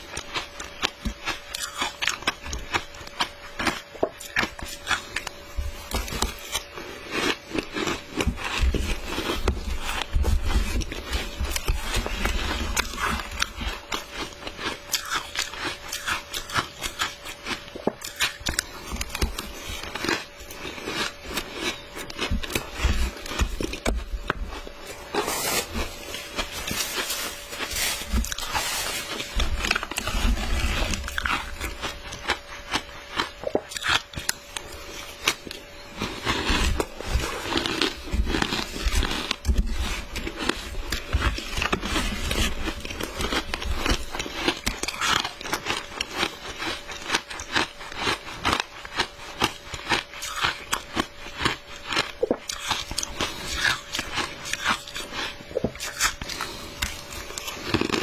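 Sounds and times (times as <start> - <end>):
crushed ice being chewed: 0.0 - 58.0.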